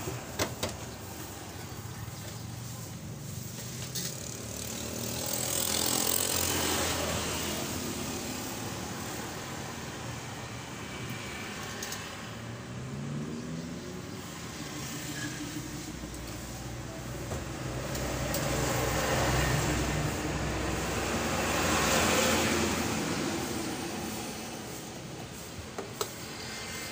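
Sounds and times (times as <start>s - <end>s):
motor vehicle passing: 1.0s - 26.9s.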